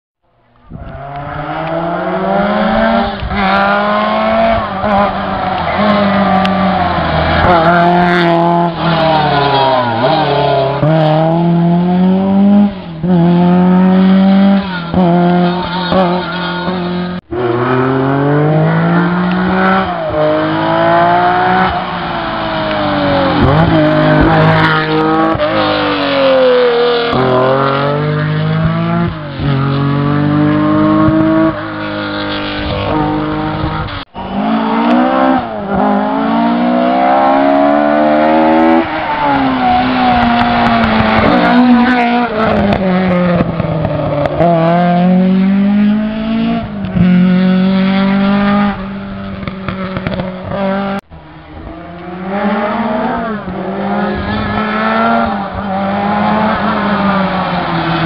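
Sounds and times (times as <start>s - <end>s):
rally car engine revving: 0.5s - 58.0s.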